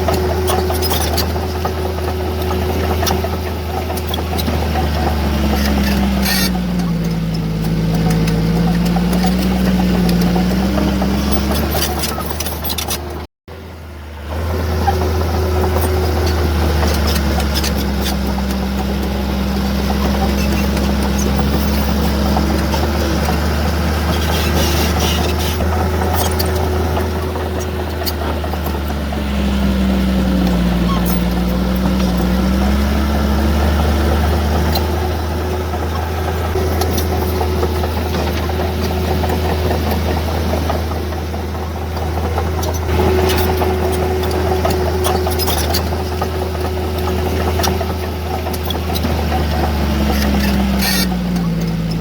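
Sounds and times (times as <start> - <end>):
diesel engine under load: 0.0 - 52.0.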